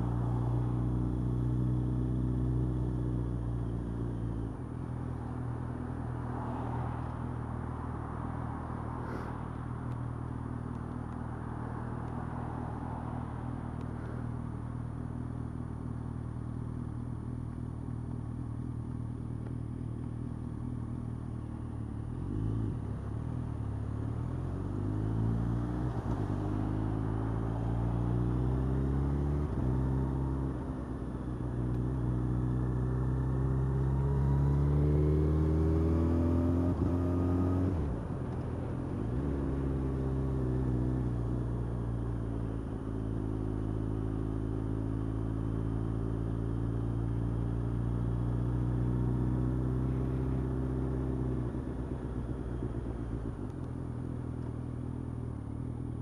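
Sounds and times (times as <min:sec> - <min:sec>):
motorcycle engine accelerating: 0:00.0 - 0:06.2, 0:13.5 - 0:56.0.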